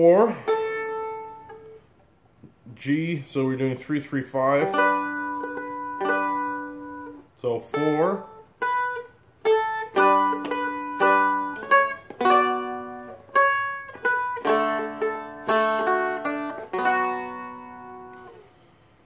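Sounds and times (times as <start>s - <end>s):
dulcimer picked and strummed: 0.1s - 1.8s, 4.5s - 18.5s.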